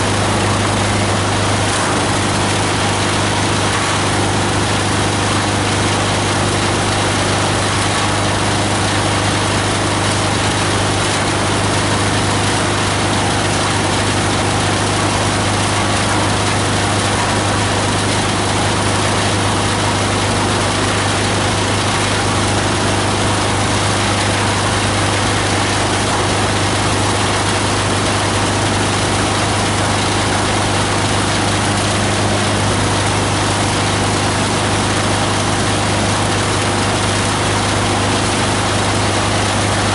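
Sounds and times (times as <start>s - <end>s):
diesel engine driving grinder: 0.0s - 39.9s.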